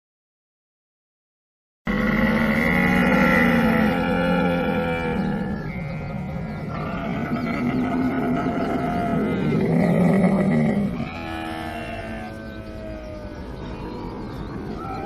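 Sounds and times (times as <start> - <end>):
camel calling: 1.9 - 14.0.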